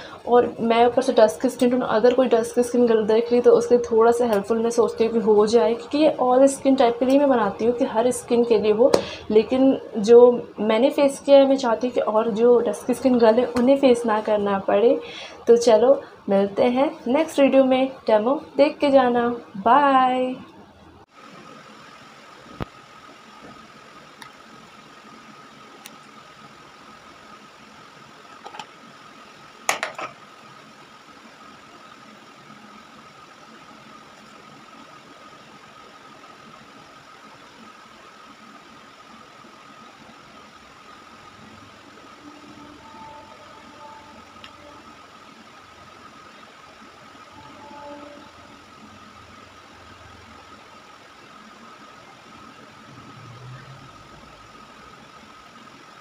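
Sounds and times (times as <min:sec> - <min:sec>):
mechanical hum: 0:00.0 - 0:56.0
thin whine: 0:00.0 - 0:56.0.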